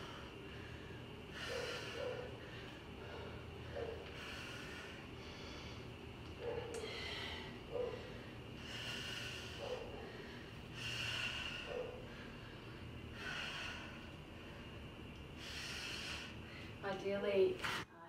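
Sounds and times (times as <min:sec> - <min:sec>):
woman breathing hard: 0:00.0 - 0:16.8.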